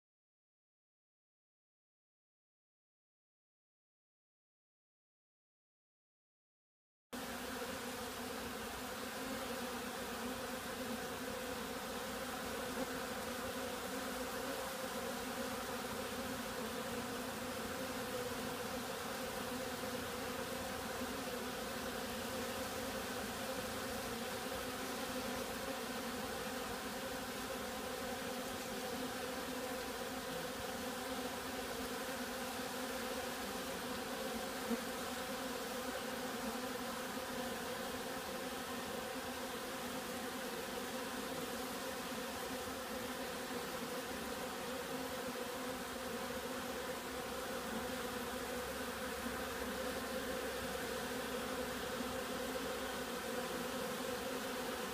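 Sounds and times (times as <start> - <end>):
honeybees buzzing: 7.2 - 54.9.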